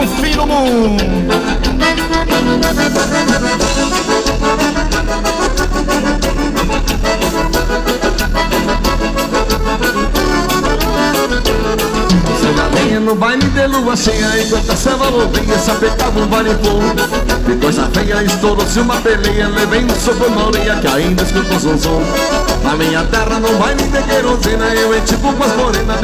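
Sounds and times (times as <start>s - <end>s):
accordion: 0.0s - 26.0s
quick band beat: 0.0s - 26.0s.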